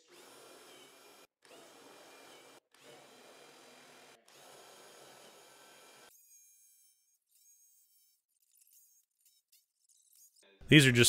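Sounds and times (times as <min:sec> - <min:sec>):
cordless drill whining: 0:00.0 - 0:10.4.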